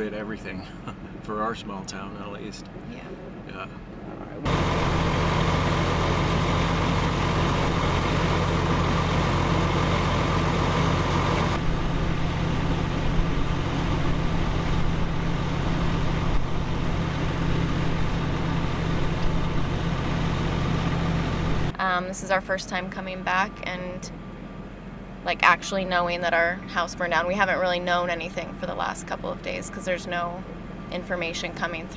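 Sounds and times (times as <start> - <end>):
heavy engine running: 0.0 - 31.9.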